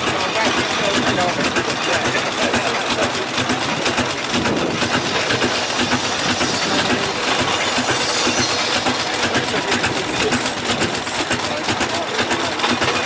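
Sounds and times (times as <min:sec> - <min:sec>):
steam roller engine clatter: 0:00.0 - 0:13.0.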